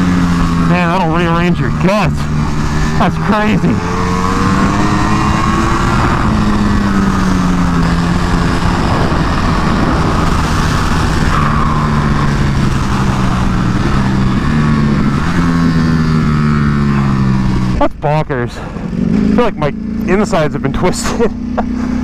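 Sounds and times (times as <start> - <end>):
wind rush: 0.0 - 17.8
motorcycle engine revving hard: 0.0 - 22.0.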